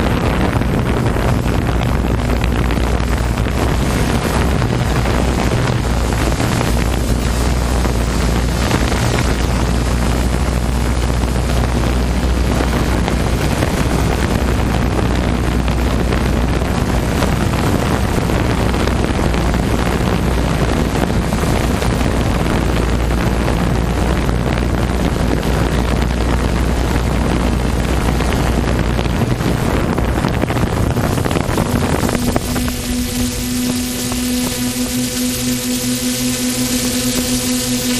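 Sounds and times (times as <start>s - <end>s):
jet skis running at speed: 0.0s - 37.9s
wind buffeting microphone: 0.0s - 37.9s.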